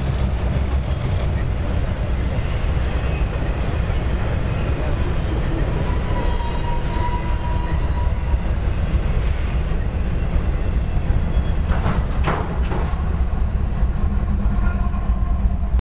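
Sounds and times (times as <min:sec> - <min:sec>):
train wheels clacking on rails: 0:00.0 - 0:15.4
locomotive passing: 0:00.0 - 0:15.8.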